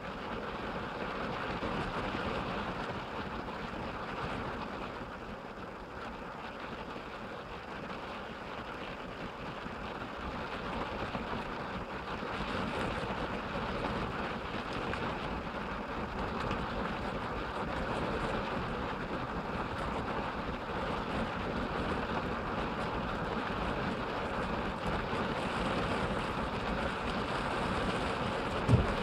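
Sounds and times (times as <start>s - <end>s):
rain on car roof: 0.1s - 29.0s.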